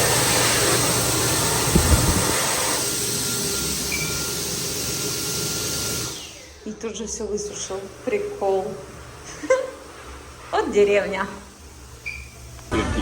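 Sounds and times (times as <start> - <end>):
hand dryer blowing air: 0.0 - 6.6, 7.4 - 12.7.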